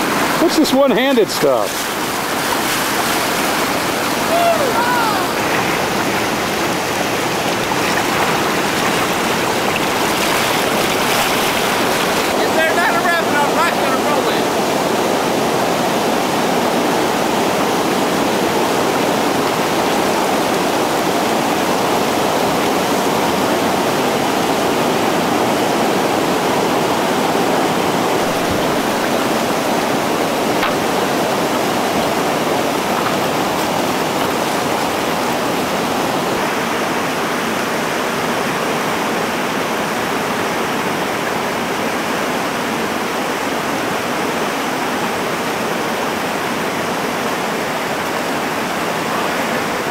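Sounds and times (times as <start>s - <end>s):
river rapids rushing: 0.0s - 49.9s.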